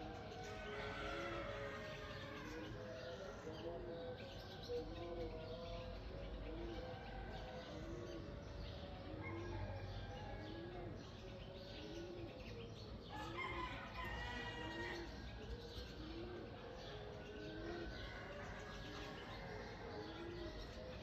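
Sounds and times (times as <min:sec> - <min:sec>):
dove cooing: 0:00.0 - 0:21.0
small birds chirping: 0:02.2 - 0:21.0.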